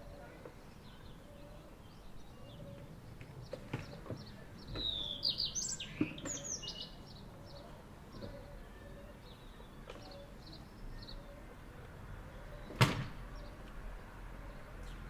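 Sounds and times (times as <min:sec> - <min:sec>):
faint outdoor background noise: 0:00.0 - 0:15.0
songbird chirping and trilling: 0:00.0 - 0:15.0.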